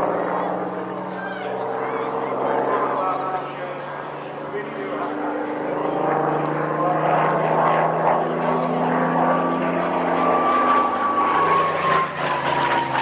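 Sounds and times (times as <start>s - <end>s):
propeller aircraft flying past: 0.0s - 13.0s.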